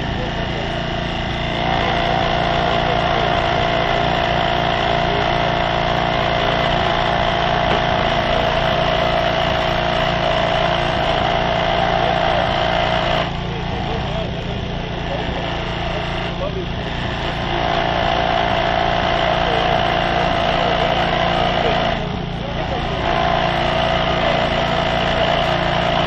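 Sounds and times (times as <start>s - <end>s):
hydraulic power unit engine running: 0.0s - 26.0s.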